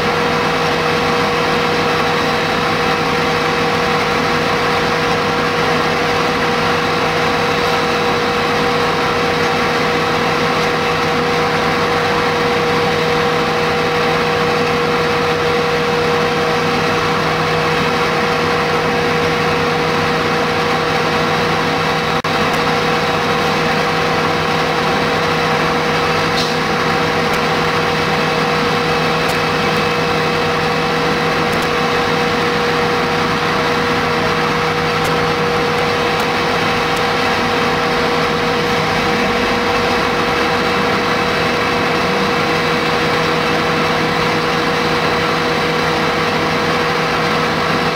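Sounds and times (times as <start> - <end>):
diesel engines running: 0.0 - 47.9.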